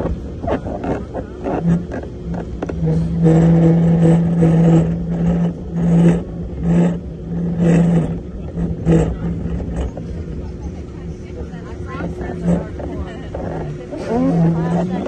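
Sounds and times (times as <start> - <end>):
cart wheels rumbling on track: 0.0 - 15.0
knocks and rattles: 0.0 - 15.0
pitched hum: 0.0 - 15.0.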